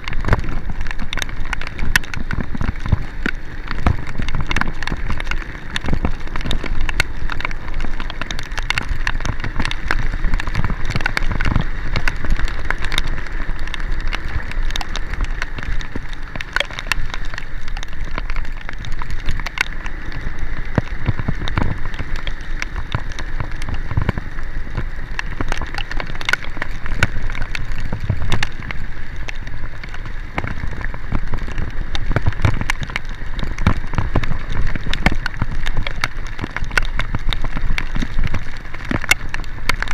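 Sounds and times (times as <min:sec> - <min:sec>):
heavy rain patter: 0:00.0 - 0:39.9.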